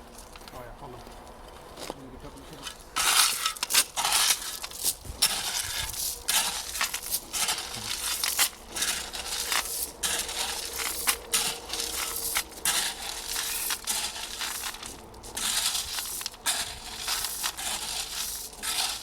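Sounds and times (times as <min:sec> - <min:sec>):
foam boards crunching and scraping: 0:01.6 - 0:19.0.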